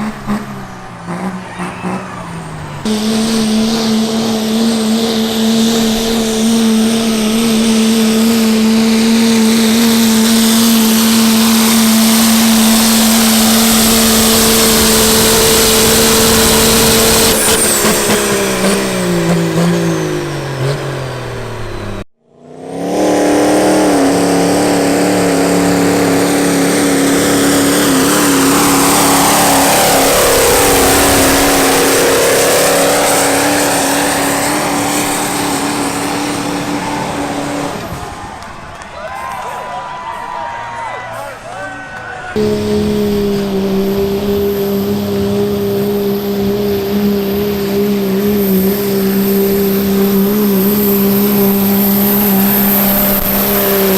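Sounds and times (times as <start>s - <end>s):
engine at high revs: 0.0s - 38.9s, 42.3s - 53.9s
diesel truck engine revving: 0.0s - 39.0s, 42.2s - 53.9s.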